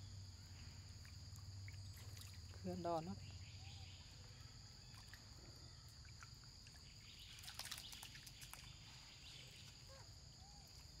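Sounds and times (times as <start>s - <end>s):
faint water splashing: 0.4s - 3.4s, 4.0s - 11.0s.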